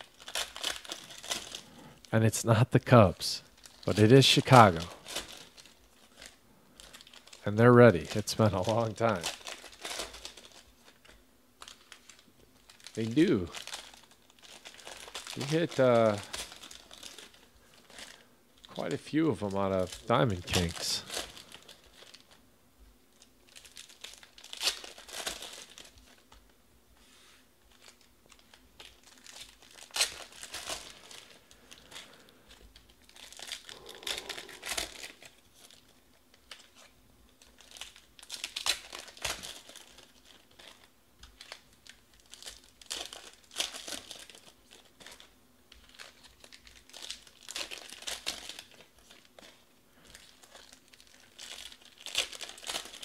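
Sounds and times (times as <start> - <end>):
foil wrappers tearing and crinkling: 0.0 - 22.4, 23.1 - 26.5, 27.6 - 53.0.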